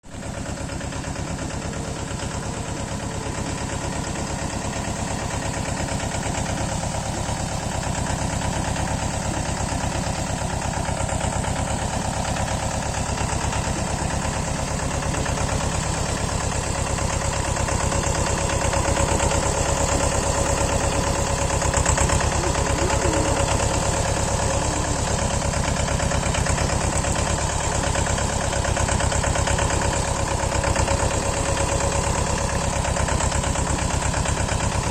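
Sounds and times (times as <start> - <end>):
tractor diesel engine chugging: 0.0 - 34.9.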